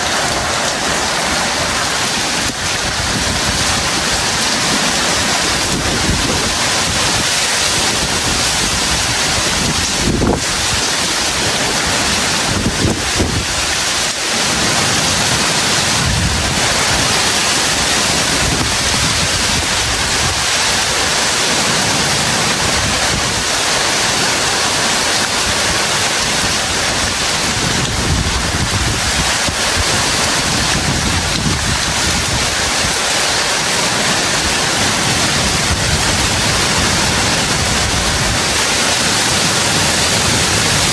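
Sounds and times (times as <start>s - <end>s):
heavy rain pouring: 0.0s - 40.9s
wind buffeting microphone: 0.0s - 40.9s.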